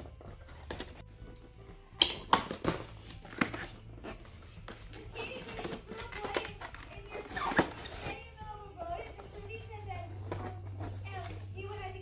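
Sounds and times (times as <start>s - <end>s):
cardboard and plastic rustling: 0.0s - 1.6s, 2.4s - 8.3s, 8.9s - 12.0s.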